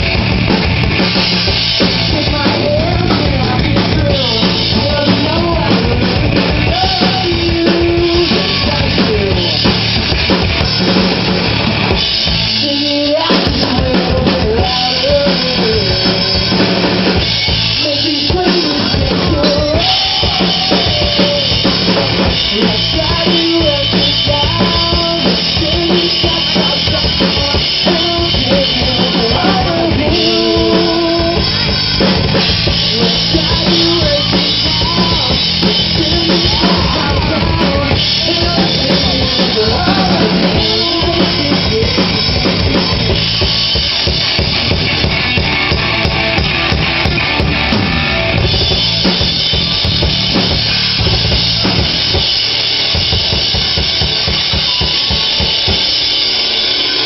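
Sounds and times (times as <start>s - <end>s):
music with drum kit: 0.0s - 57.0s.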